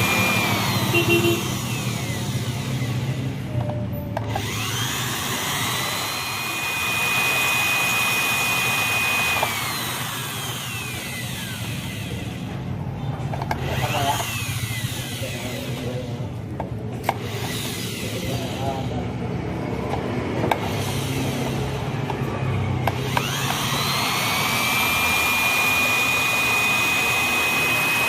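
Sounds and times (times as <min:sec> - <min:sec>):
sewing machine motor whine: 0:00.0 - 0:12.6, 0:13.6 - 0:16.3, 0:20.5 - 0:28.0.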